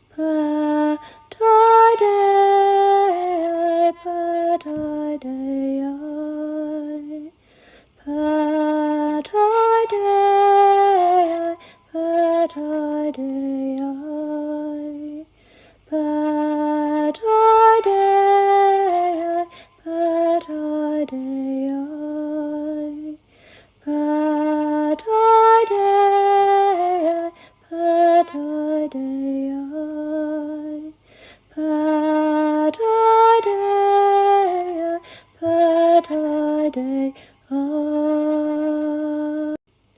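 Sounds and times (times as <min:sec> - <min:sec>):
woman singing unaccompanied: 0:00.0 - 0:07.4, 0:08.0 - 0:39.6.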